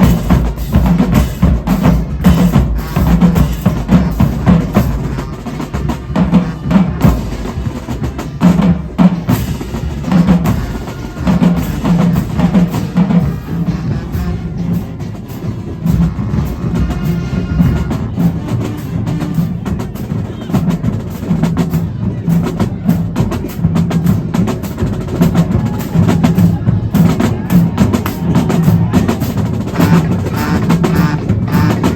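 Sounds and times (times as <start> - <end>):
marching drumline playing: 0.0 - 31.9.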